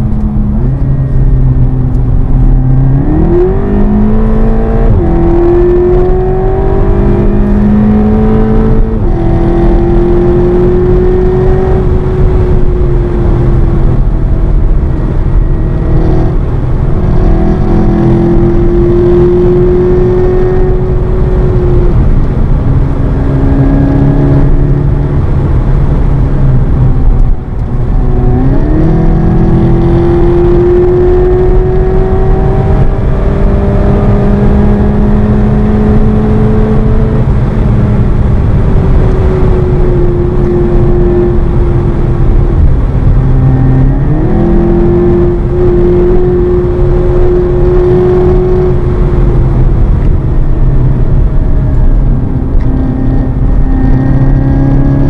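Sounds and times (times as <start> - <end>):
car engine accelerating: 0.0 - 55.0
road and wind noise: 0.0 - 55.0.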